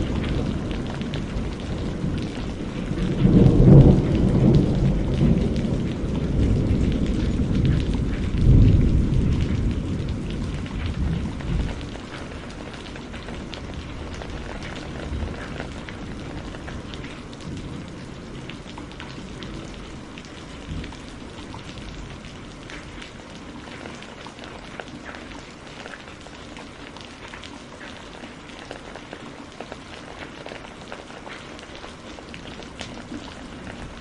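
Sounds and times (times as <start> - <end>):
rain drops ticking on surface: 0.0 - 34.0.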